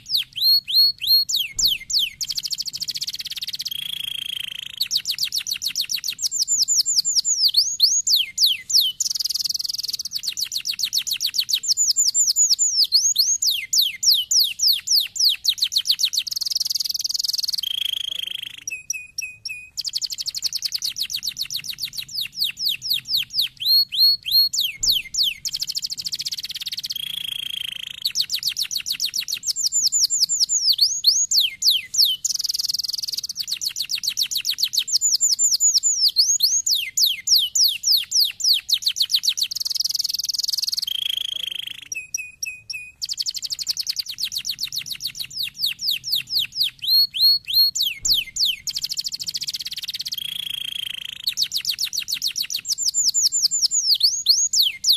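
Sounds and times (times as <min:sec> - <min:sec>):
canary singing: 0:00.0 - 0:54.9.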